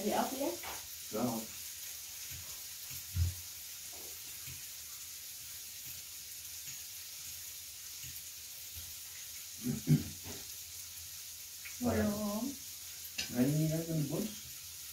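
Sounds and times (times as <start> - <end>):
grill sizzling: 0.0 - 14.9.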